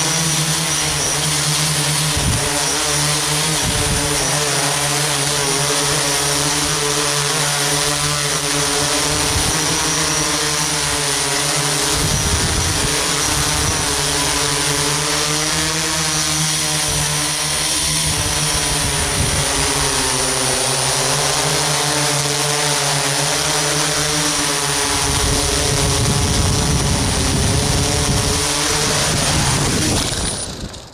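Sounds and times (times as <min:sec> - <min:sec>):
drone propellers buzzing: 0:00.0 - 0:30.9.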